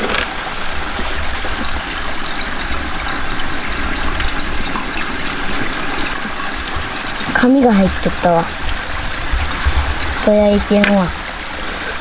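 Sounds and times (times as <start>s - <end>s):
water pouring onto concrete sink: 0.0s - 12.0s.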